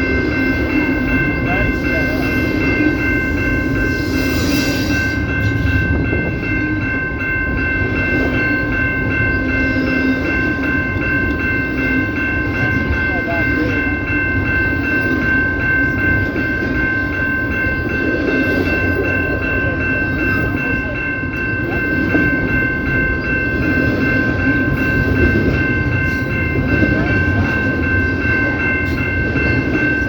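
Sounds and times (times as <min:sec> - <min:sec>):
high-pitched ringing squeal: 0:00.0 - 0:30.0
train wheels rumbling on track: 0:00.0 - 0:30.0.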